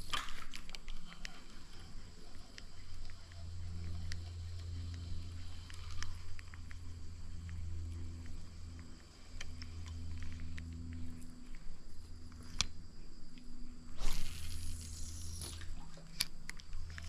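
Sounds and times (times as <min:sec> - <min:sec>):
insects buzzing: 0:00.0 - 0:17.0
small clicks: 0:00.0 - 0:17.0.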